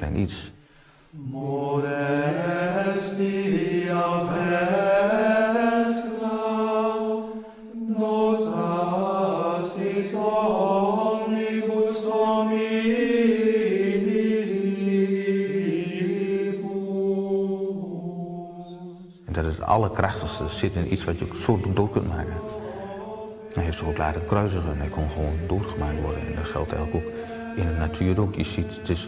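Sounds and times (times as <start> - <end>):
men chanting unaccompanied: 1.2 - 29.0.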